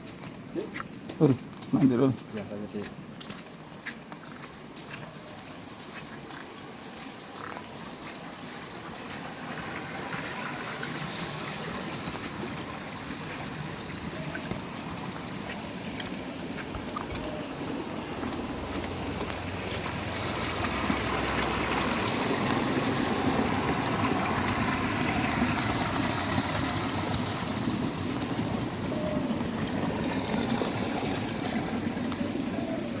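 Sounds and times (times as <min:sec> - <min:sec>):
heavy rain and running water: 0:00.0 - 0:33.0.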